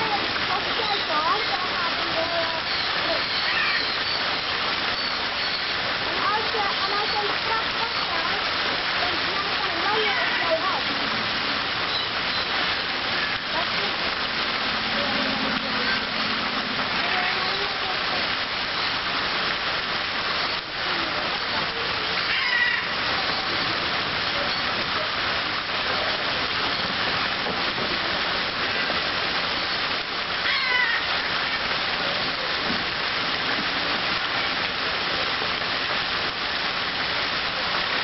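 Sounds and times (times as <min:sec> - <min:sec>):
fountain water splashing: 0:00.0 - 0:38.0.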